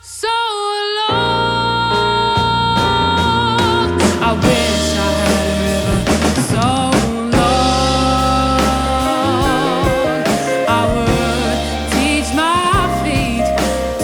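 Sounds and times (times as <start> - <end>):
jazz band playing: 1.3 - 14.0.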